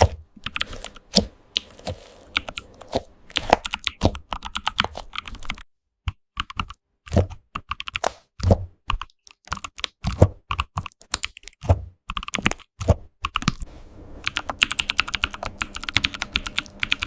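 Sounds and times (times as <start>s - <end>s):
computer keyboard typing: 0.4s - 8.0s, 8.9s - 13.6s, 14.2s - 17.0s.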